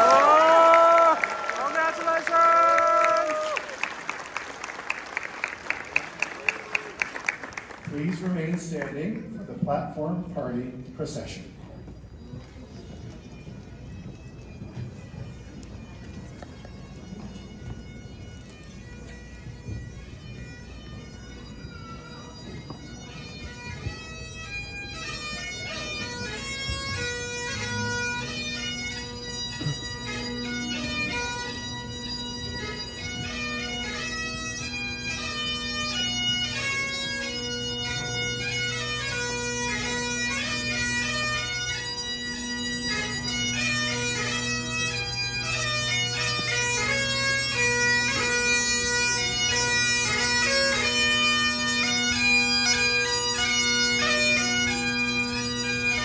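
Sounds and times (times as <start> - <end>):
bagpipes playing over drones: 9.9 - 56.0.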